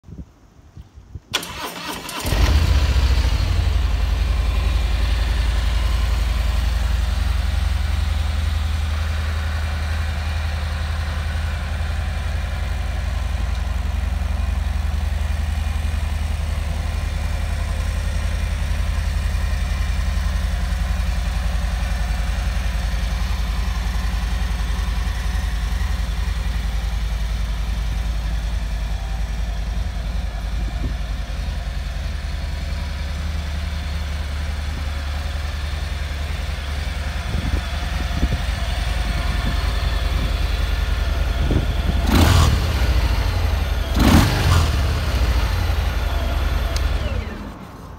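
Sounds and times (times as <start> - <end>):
motorcycle engine idling: 1.5 - 47.9.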